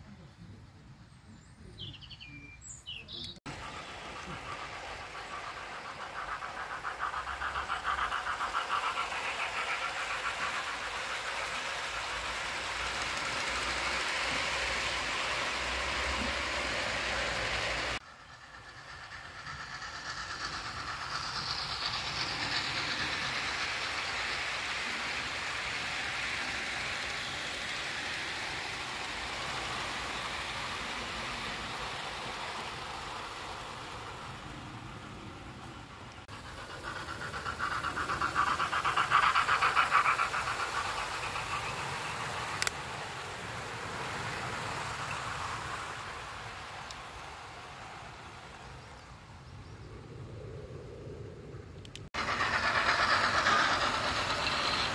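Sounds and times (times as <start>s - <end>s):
model train wheels on rails: 2.9s - 54.9s.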